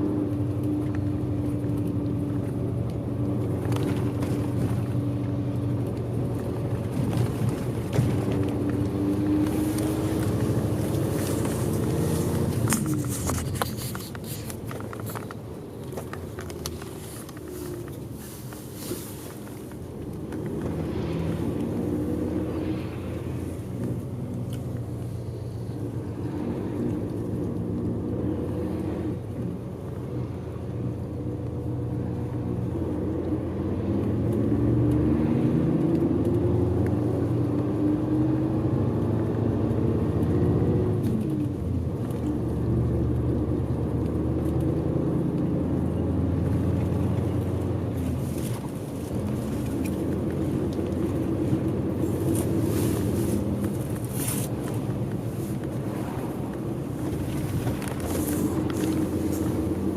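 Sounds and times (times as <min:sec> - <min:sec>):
diesel bus engine running: 0:00.0 - 0:34.3, 0:38.6 - 0:59.9
road noise: 0:00.0 - 0:59.9.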